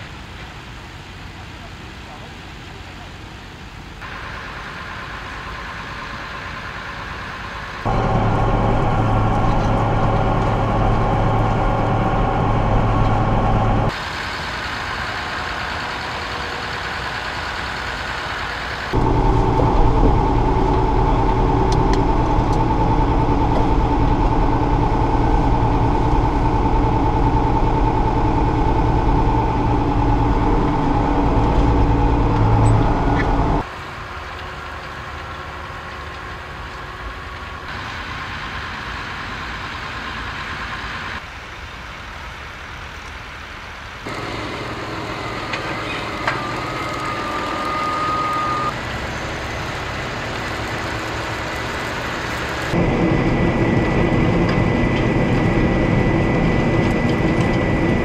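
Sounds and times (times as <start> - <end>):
tractor engine droning: 4.0 - 41.2, 44.1 - 58.0.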